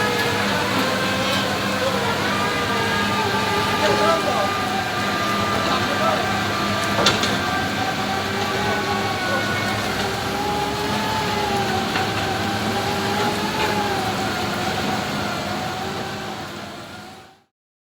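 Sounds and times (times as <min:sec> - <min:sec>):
drilling rig engine whine: 0:00.0 - 0:17.4.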